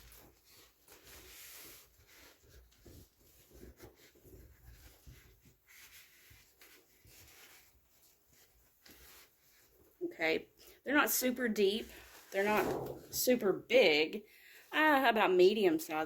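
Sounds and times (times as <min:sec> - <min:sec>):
fabric and packaging rustling: 0:00.0 - 0:14.0.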